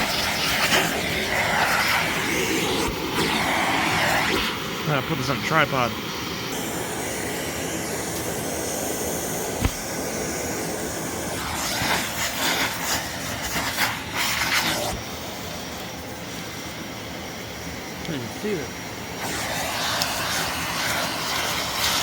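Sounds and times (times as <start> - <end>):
air blower running: 0.0 - 22.0.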